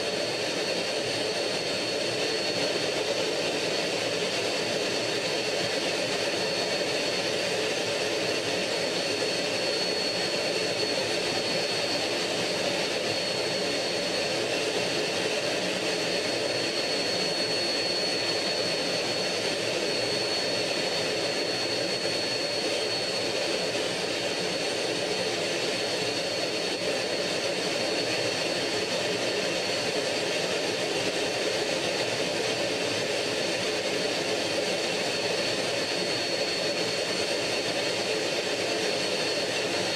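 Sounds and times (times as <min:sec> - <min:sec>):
high engine whine: 0:00.0 - 0:39.9
jet engine rushing: 0:00.0 - 0:39.9.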